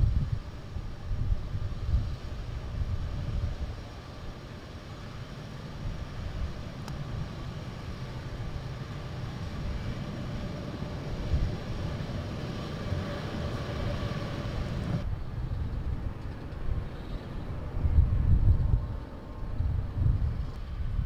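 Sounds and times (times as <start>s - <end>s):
jet engines rumbling with whine: 0.0s - 21.0s.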